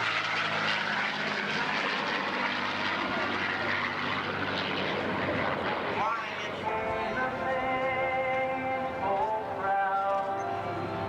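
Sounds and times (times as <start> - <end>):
airplane engine drone overhead: 0.0 - 11.0.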